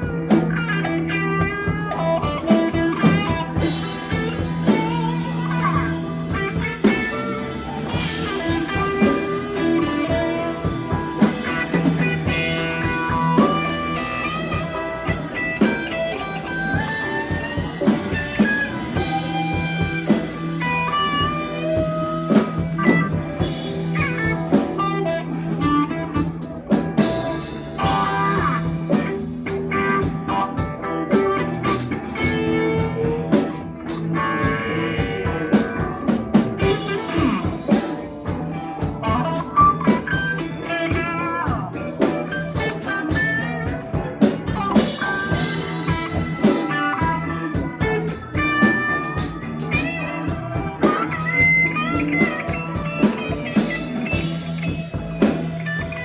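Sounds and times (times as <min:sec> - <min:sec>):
drum kit beat: 0:00.0 - 0:56.0
electric guitar lead lines: 0:00.0 - 0:56.0.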